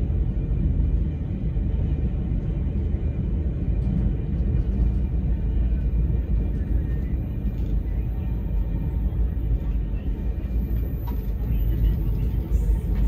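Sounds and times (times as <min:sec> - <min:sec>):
train rumbling inside passenger car: 0:00.0 - 0:13.0.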